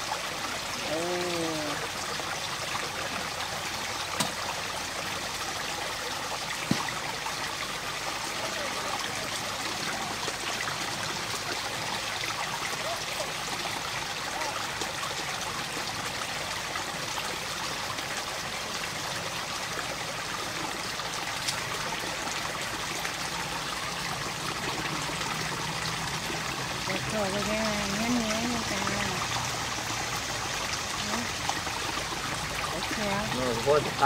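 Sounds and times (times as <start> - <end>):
stream trickling over rocks: 0.0 - 34.0.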